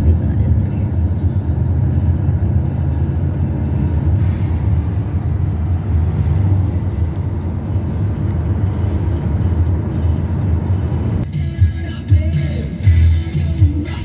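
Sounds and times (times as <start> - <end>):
moving car rumble: 0.0 - 14.0.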